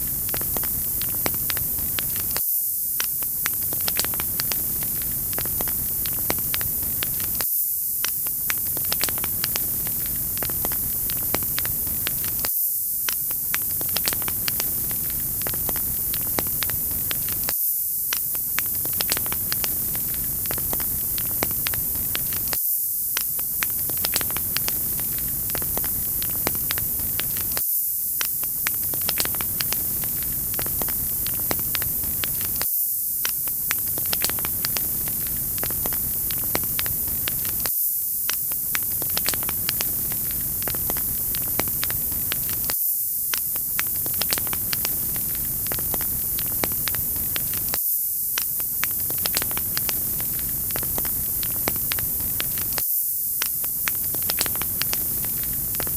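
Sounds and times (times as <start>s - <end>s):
wood fire crackling and popping: 0.0s - 2.4s, 3.0s - 27.6s, 28.2s - 55.9s.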